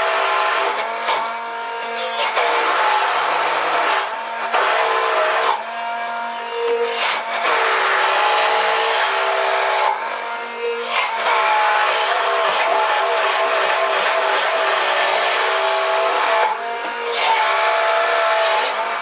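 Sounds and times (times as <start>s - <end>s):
stick blender motor whining: 0.0s - 19.0s.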